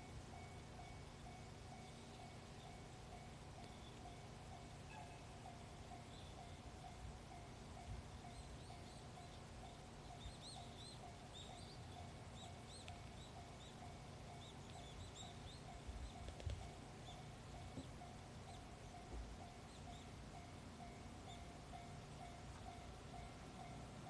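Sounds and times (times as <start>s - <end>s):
small birds chirping: 1.2s - 23.9s.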